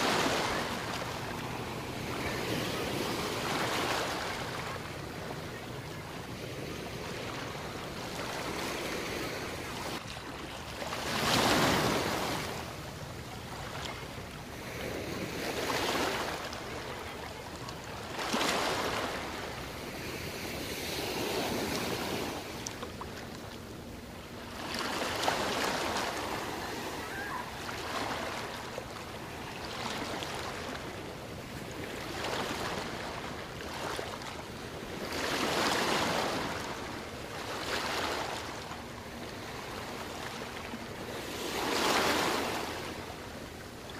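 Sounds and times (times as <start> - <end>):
waves washing up a beach: 0.0 - 43.9.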